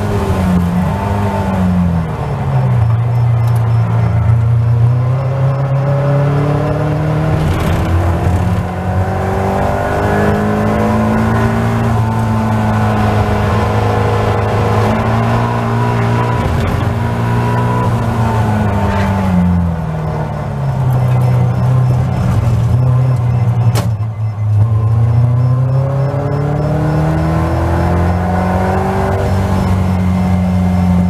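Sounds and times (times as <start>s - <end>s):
race car engine accelerating: 0.0s - 31.0s.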